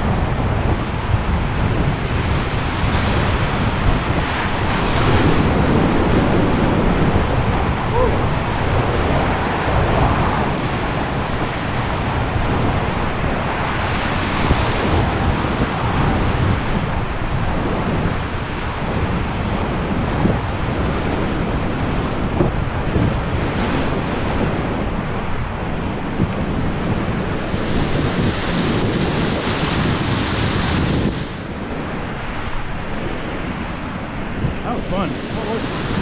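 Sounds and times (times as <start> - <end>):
whitewater rushing: 0.0 - 29.6, 31.4 - 36.0
waves splashing over raft: 0.0 - 36.0.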